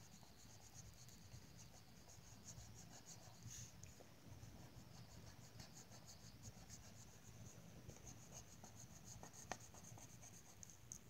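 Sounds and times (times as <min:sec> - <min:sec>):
marker scratching on paper: 0:00.0 - 0:03.7, 0:04.6 - 0:07.3, 0:07.9 - 0:10.8.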